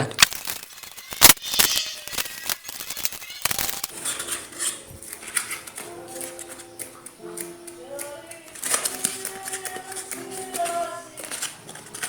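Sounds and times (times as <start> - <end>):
styrofoam and tape clicks and crackles: 0.0 - 12.0.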